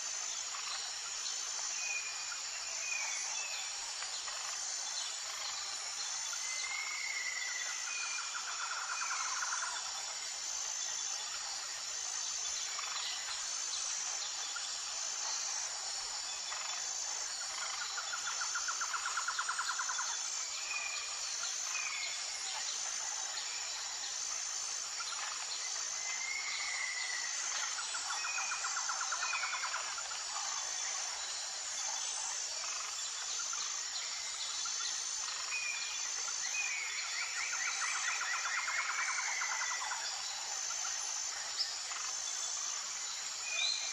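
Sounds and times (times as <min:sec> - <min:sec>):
crickets chirring: 0:00.0 - 0:43.9
rapid pulsing insect trill: 0:00.0 - 0:43.9.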